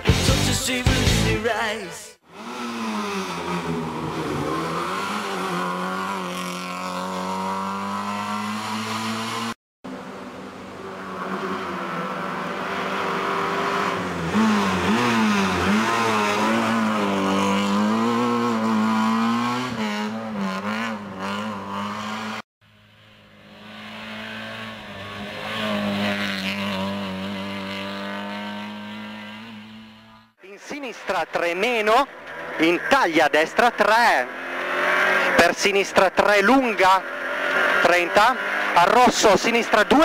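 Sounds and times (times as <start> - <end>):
rally car engine revving: 2.2 - 10.0, 10.9 - 22.4, 23.0 - 40.0.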